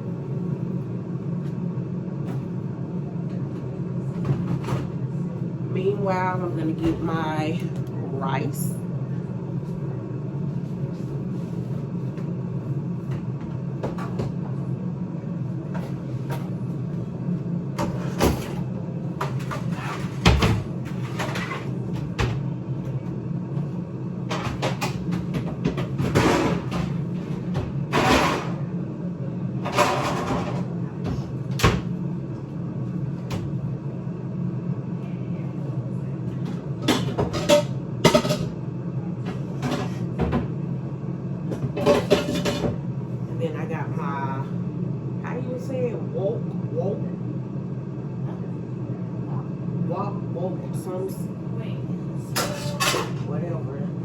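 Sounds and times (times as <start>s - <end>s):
air fryer humming: 0.0s - 54.0s.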